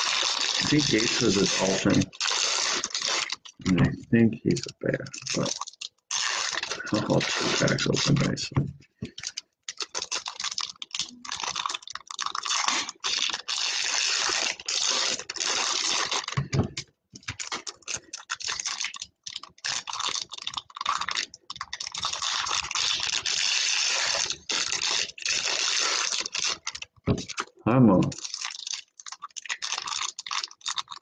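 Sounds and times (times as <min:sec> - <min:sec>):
card pack wrappers crinkling: 0:00.0 - 0:31.0.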